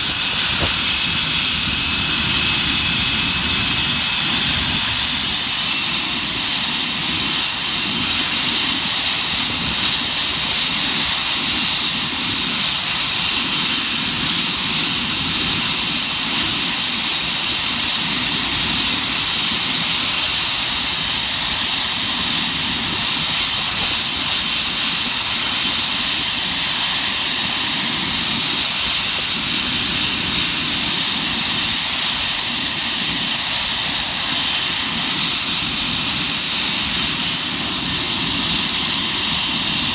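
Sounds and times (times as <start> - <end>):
jet engines high-pitched whine: 0.0 - 39.9.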